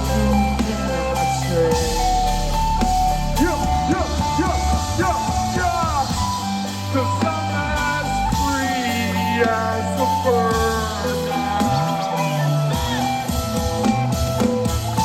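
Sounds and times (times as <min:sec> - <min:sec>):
bass and drums: 0:00.0 - 0:15.0.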